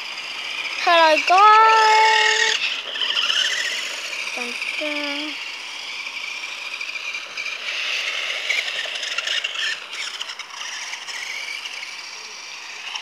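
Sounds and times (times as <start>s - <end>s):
toy car electric motor whining: 0.0s - 13.0s
toy car scraping over ground: 0.0s - 13.0s.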